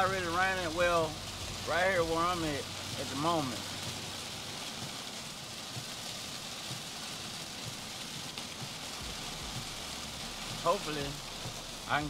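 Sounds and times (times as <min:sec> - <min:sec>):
heavy rain on vehicle roof: 0:00.0 - 0:12.0.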